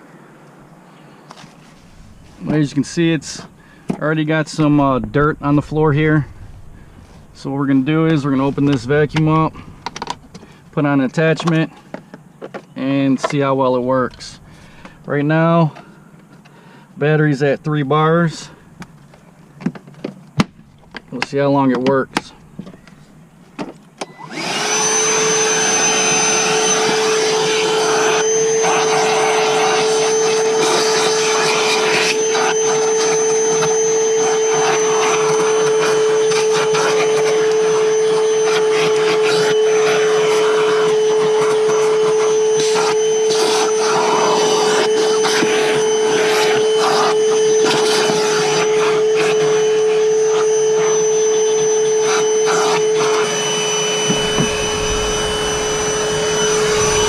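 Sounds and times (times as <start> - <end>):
vacuum cleaner running with whine: 1.4 - 15.8, 20.4 - 57.0.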